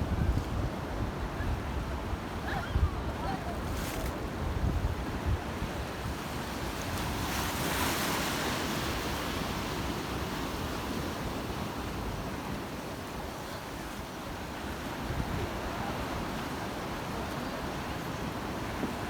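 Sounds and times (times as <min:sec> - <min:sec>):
waves washing onto shore: 0:01.0 - 0:19.0.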